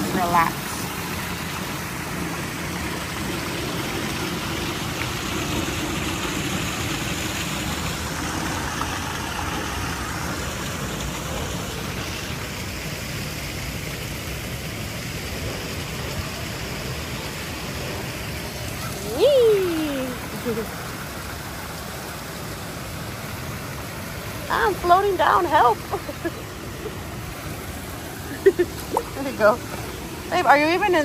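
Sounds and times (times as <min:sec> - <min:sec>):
flowing water rushing: 0:00.0 - 0:31.0.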